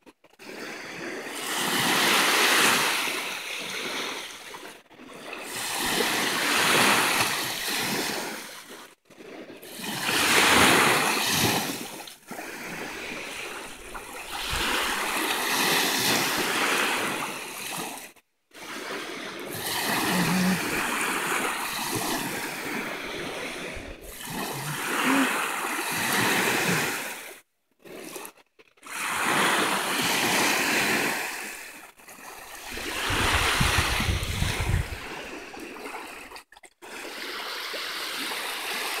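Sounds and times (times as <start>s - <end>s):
waves washing up a beach: 0.0s - 39.0s.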